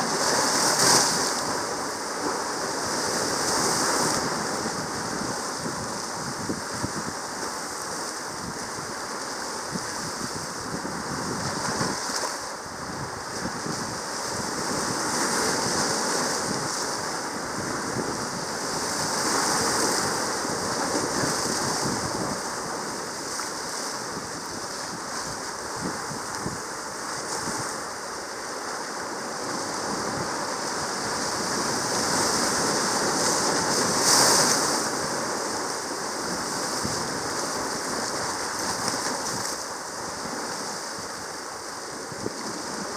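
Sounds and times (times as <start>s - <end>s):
sea waves on a reef: 0.0s - 42.9s.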